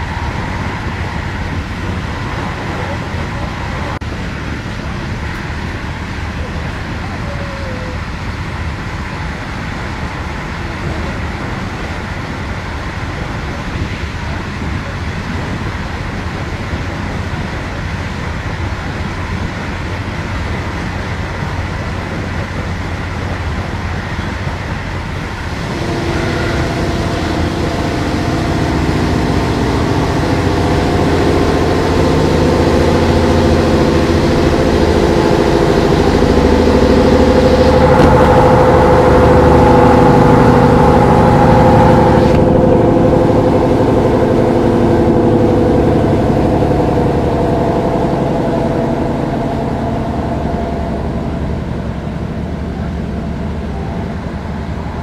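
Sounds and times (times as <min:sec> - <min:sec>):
humming drone: 0:00.0 - 0:55.0
train wheels rumbling on rail: 0:00.0 - 0:55.0.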